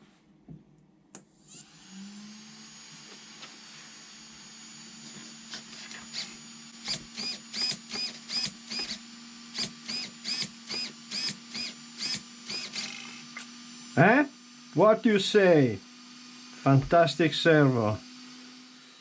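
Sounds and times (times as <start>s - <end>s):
steering servo whirring: 1.4s - 19.0s.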